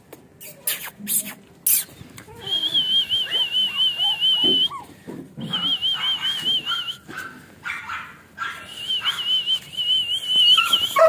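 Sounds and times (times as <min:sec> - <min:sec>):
puppies whimpering and yipping: 0:00.5 - 0:09.4, 0:10.4 - 0:11.0.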